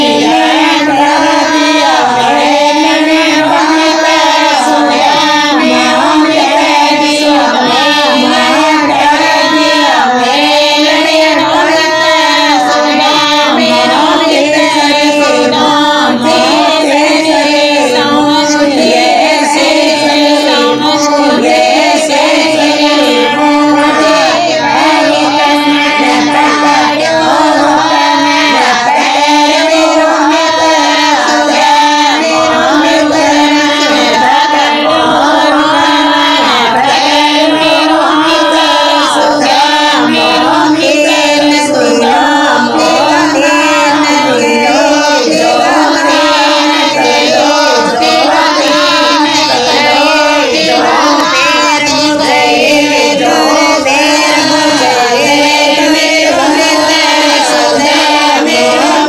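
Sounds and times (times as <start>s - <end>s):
devotional song with high voice: 0.0s - 59.0s.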